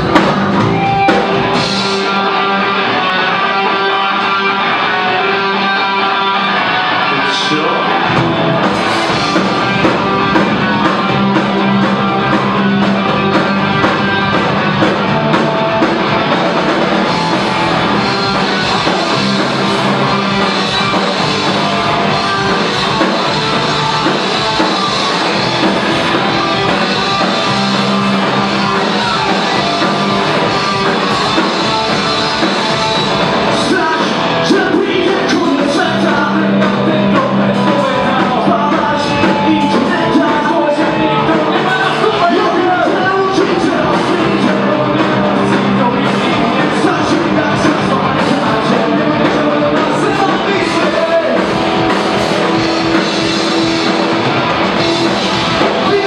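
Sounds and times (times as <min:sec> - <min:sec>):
bass guitar: 0:00.0 - 0:56.0
drums: 0:00.0 - 0:56.0
electric guitars: 0:00.0 - 0:56.0
man singing: 0:01.2 - 0:14.2, 0:17.9 - 0:54.1, 0:54.8 - 0:56.0.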